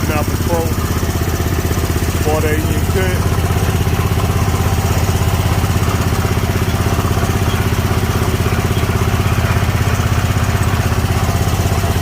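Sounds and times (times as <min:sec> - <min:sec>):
mower engine running: 0:00.0 - 0:12.0.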